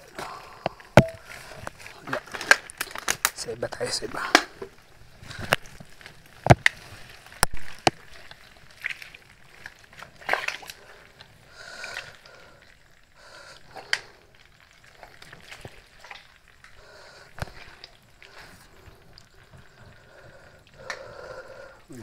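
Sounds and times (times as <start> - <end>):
footsteps over sticks and mud: 0.0 - 21.1.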